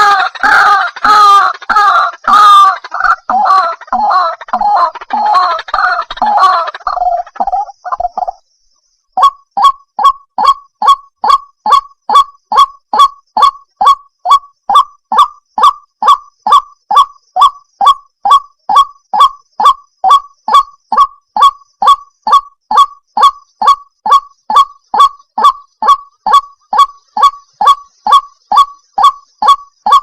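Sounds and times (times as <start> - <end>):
waterhen calling: 0.0 - 8.4, 9.2 - 30.0.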